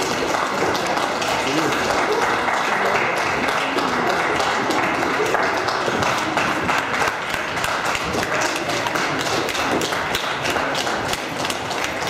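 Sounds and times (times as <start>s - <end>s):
crowd noise: 0.0s - 12.0s
scattered clapping: 0.0s - 12.0s.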